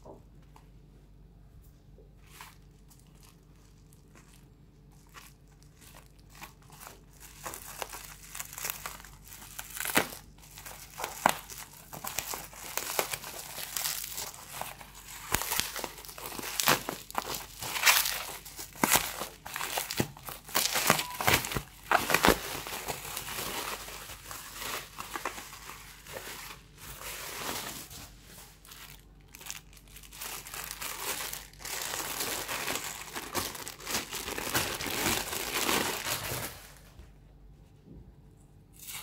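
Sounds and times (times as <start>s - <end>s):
plastic wrapping crinkling and tearing: 2.2s - 37.0s.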